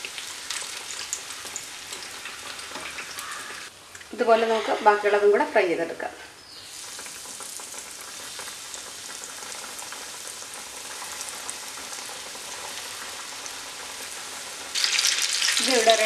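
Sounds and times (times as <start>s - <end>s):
hot oil sizzling and crackling: 0.0s - 5.8s, 6.4s - 16.0s.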